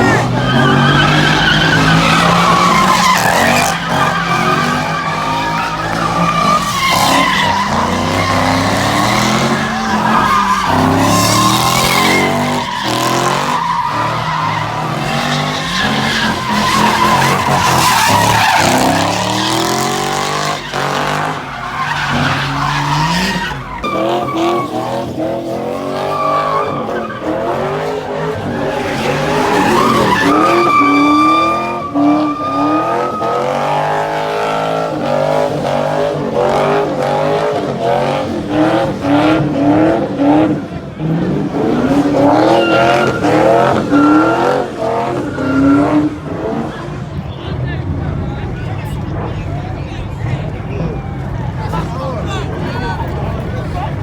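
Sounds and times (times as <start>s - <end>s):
car engine revving: 0.0s - 54.0s
tires squealing: 0.0s - 54.0s.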